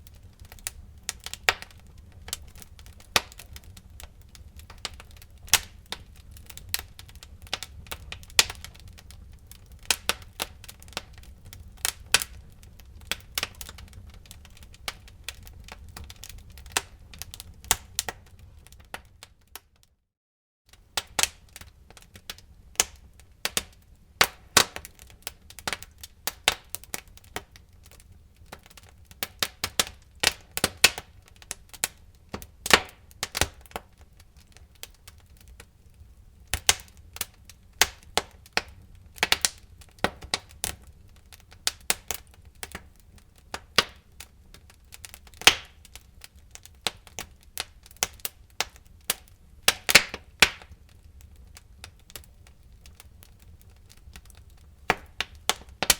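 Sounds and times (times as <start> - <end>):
wood fire crackling and popping: 0.0 - 19.9, 20.7 - 55.9.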